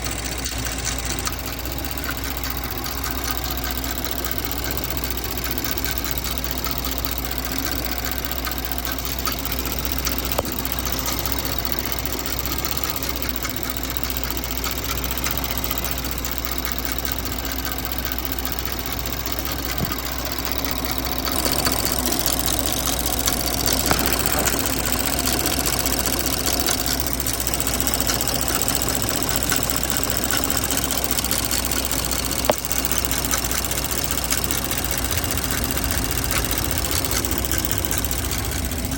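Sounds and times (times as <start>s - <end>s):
car engine idling: 0.0s - 38.9s
rapid engine ticking: 0.0s - 38.9s.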